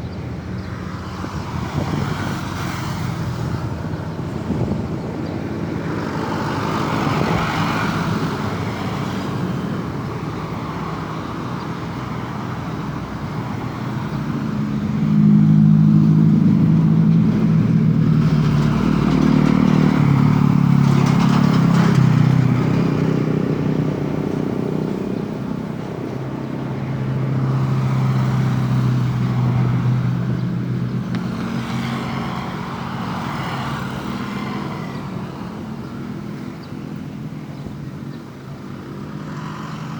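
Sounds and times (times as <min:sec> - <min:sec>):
vehicles passing: 0:00.0 - 0:39.9.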